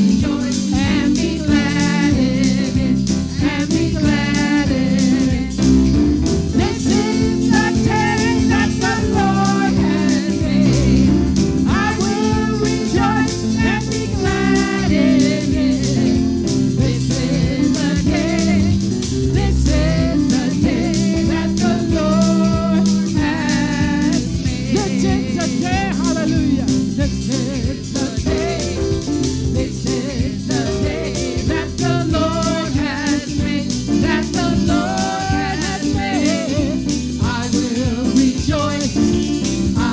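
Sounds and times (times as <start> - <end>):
gospel singing with accompaniment: 0.0 - 39.9.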